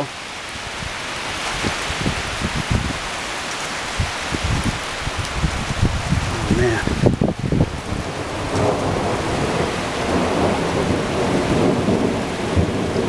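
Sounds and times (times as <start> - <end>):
wind and rain rushing: 0.0 - 13.0.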